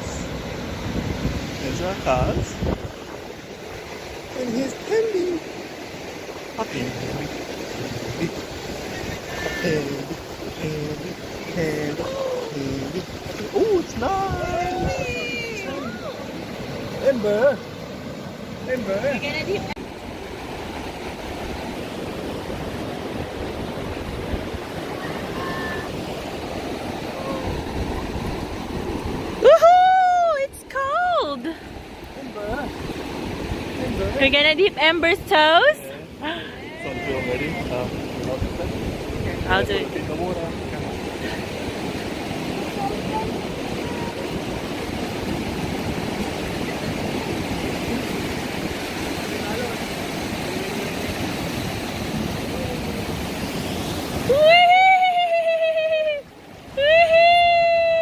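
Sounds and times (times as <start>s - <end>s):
wind buffeting microphone: 0.0s - 35.5s, 36.8s - 58.0s
ocean surf washing onto beach: 0.0s - 58.0s.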